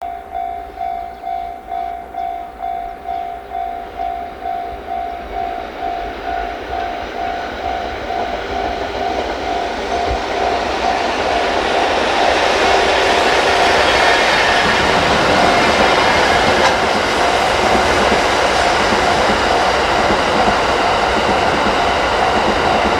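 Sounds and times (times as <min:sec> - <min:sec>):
crossing warning bell dinging: 0:00.0 - 0:22.9
train rumble and wheel clatter: 0:00.2 - 0:22.9.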